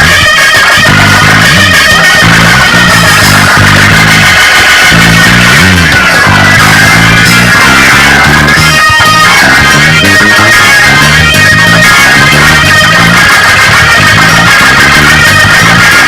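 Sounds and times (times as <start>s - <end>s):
live band praise music: 0.0s - 16.0s.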